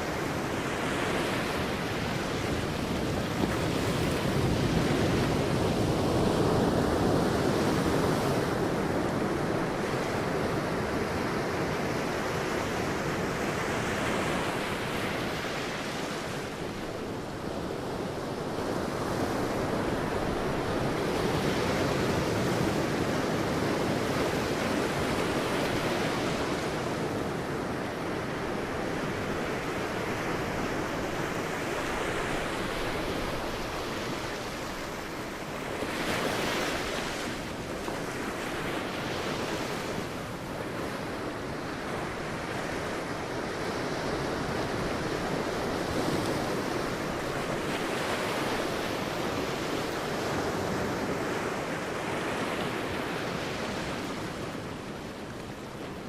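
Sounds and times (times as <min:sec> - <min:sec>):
sea waves breaking on a beach: 0:00.0 - 0:56.0.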